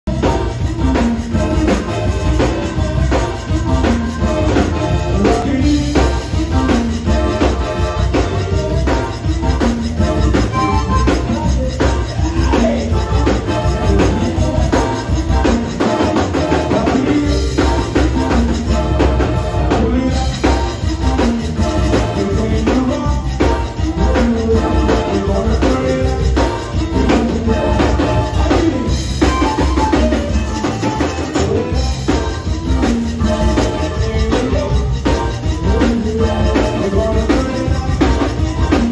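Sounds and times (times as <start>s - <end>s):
drum kit: 0.0s - 38.9s
electric bass: 0.0s - 38.9s
guitar: 0.0s - 38.9s
keyboard: 0.0s - 38.9s
piano accordion melody: 0.0s - 38.9s
rubboard scraped rhythmically: 0.1s - 38.9s.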